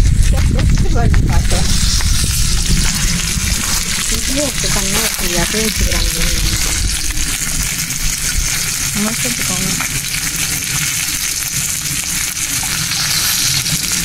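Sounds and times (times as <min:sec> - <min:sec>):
chicken frying in hot oil: 0:00.0 - 0:14.0.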